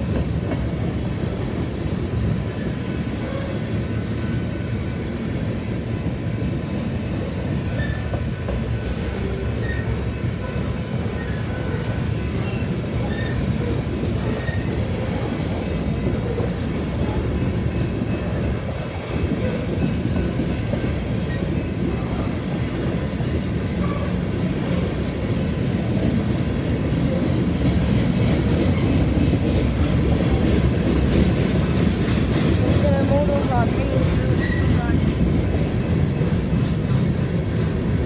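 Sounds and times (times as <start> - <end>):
freight train wheels clattering: 0.0 - 38.0.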